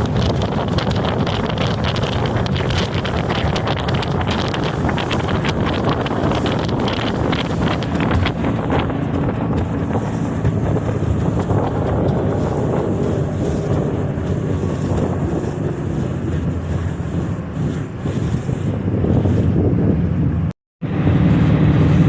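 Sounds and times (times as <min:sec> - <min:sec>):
outboard motor running: 0:00.0 - 0:22.0
wind noise on microphone: 0:00.0 - 0:22.0.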